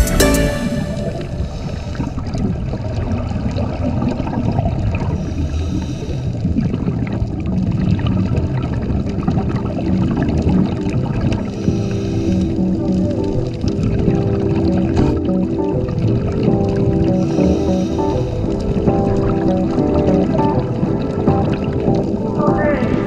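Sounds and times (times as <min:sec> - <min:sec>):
muffled underwater rush: 0:00.0 - 0:23.0
water gurgling: 0:00.0 - 0:23.0.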